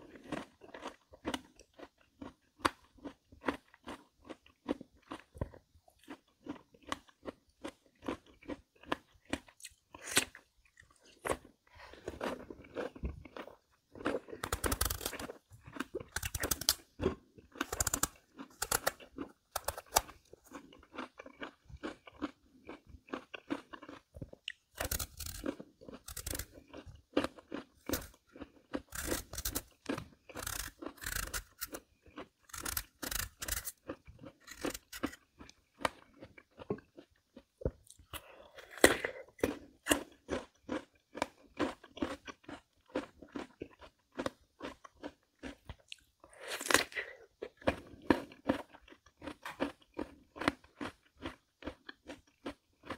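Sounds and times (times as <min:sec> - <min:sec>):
crisp chewing crunches: 0:00.0 - 0:52.9.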